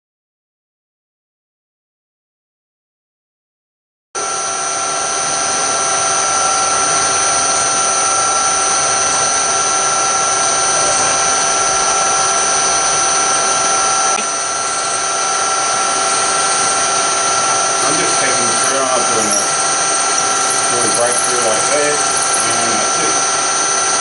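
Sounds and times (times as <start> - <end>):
drill motor whine: 4.2 - 24.0.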